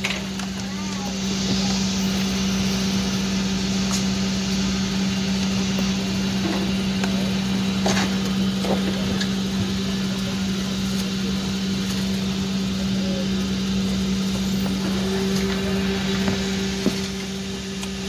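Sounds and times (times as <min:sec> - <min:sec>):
air conditioning drone: 0:00.0 - 0:18.0.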